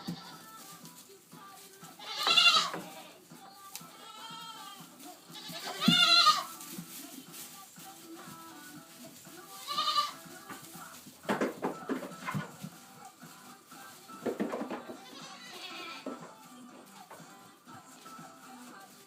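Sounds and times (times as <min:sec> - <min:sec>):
goats bleating: 0:00.0 - 0:19.0.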